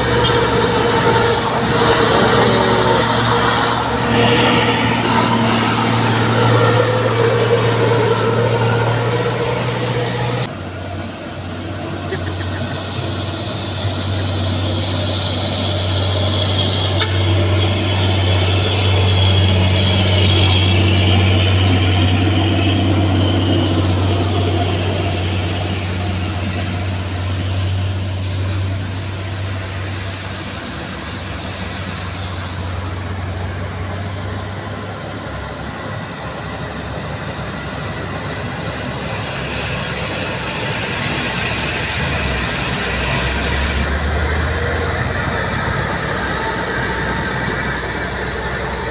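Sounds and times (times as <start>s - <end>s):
truck diesel engine labouring: 0.0s - 48.9s.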